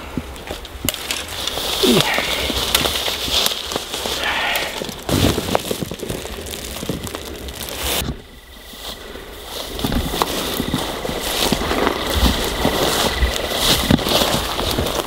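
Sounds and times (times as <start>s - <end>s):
dry branches and grass crackling: 0.0s - 15.0s
footsteps through grass: 0.0s - 15.0s.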